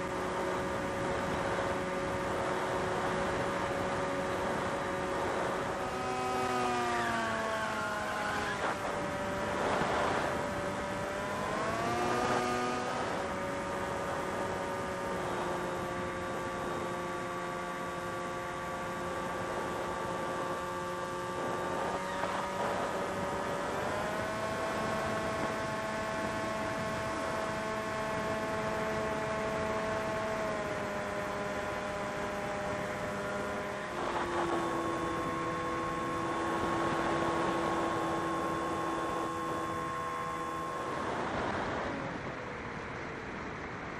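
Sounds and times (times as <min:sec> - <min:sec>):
quadcopter motors whining: 0:00.0 - 0:42.4.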